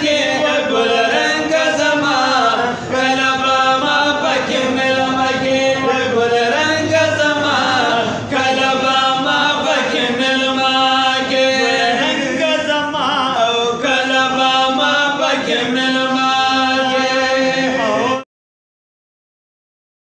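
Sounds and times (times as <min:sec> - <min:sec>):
men singing devotional hymn: 0:00.0 - 0:18.3.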